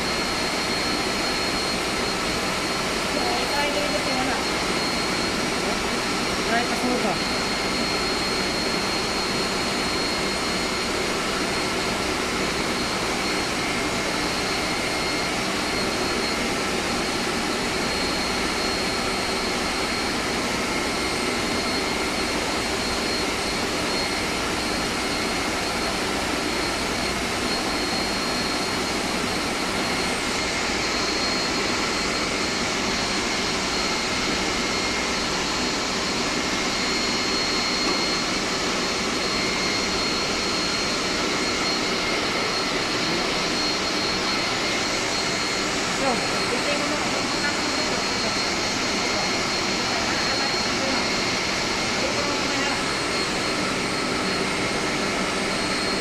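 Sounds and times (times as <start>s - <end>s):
machinery drone: 0.0s - 56.0s
thin high whine: 0.0s - 56.0s.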